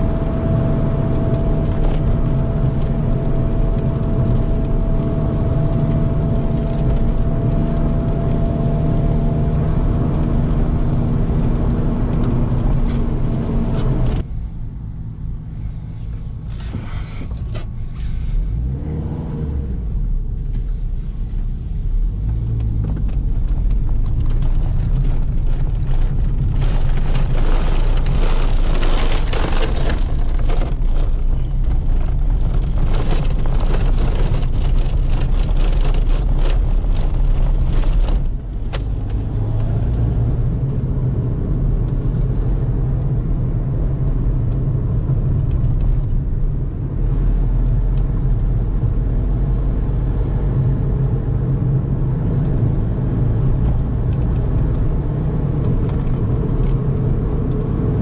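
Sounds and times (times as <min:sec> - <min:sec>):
car engine and tyre hum: 0:00.0 - 0:58.0.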